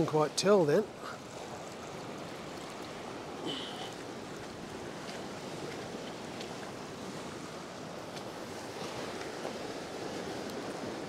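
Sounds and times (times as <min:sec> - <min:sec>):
ocean waves over rocks: 0:00.0 - 0:11.0.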